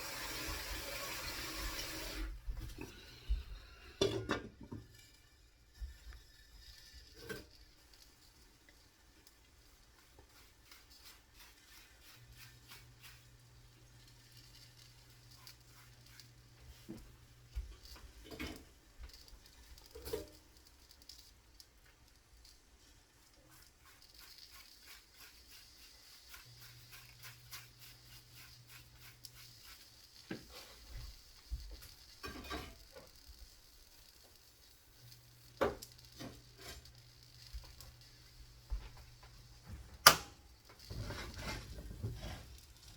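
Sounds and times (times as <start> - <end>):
omelette crackling in pan: 4.8 - 42.9.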